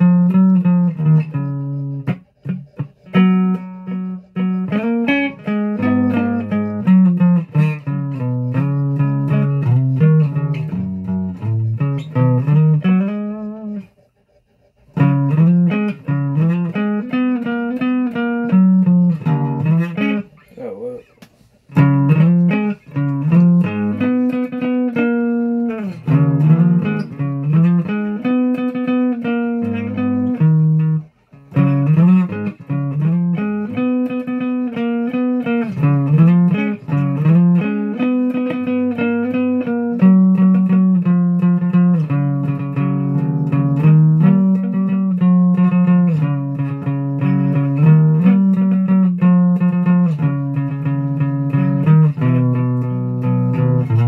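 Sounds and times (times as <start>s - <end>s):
plucked guitar melody: 3.0s - 13.8s, 15.0s - 20.3s, 21.7s - 54.0s
guitar bass line: 3.1s - 13.8s, 15.0s - 20.3s, 21.8s - 54.0s.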